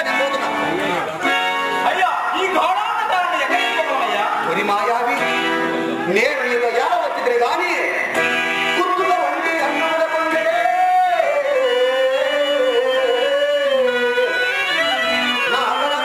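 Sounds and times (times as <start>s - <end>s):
instrumental accompaniment: 0.0s - 16.0s
man singing drawn-out melody: 0.0s - 16.0s.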